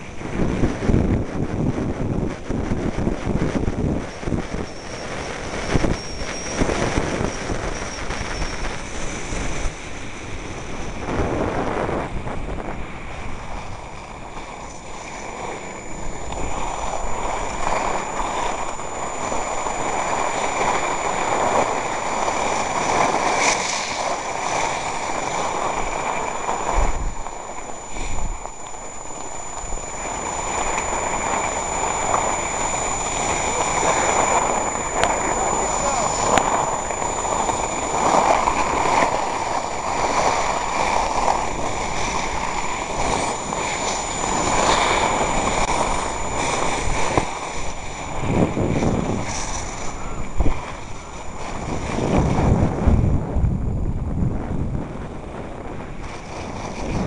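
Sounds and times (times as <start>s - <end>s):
wind buffeting microphone: 0.0s - 57.0s
skis hissing over snow: 3.0s - 12.0s, 12.9s - 52.6s.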